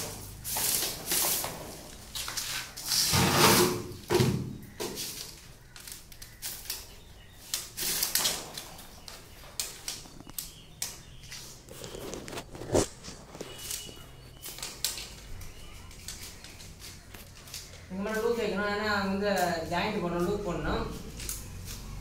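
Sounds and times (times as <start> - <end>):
wires rustling and scraping: 0.0 - 4.1, 4.7 - 22.0.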